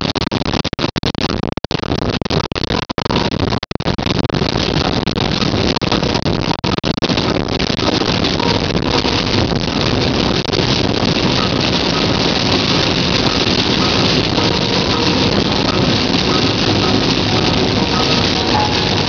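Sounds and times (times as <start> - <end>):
heavy rain on car windshield: 0.0 - 19.0.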